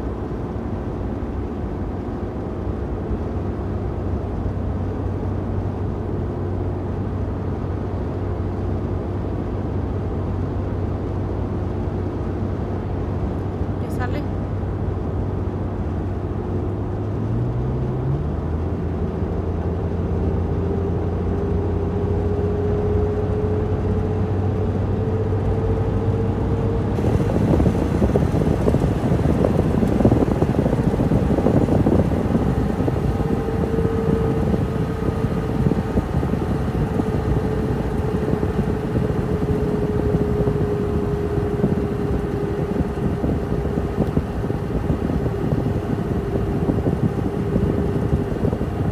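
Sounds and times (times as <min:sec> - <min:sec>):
engine and road noise in cab: 0:00.0 - 0:48.9.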